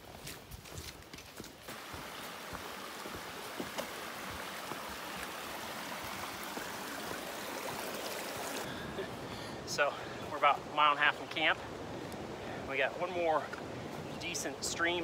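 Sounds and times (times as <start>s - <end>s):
stream water rushing: 1.6s - 15.0s.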